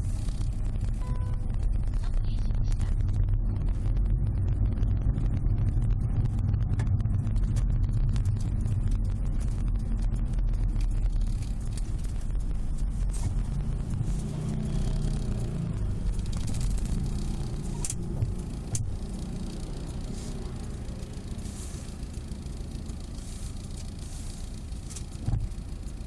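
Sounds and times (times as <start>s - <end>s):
road and engine rumble: 0.0s - 26.0s.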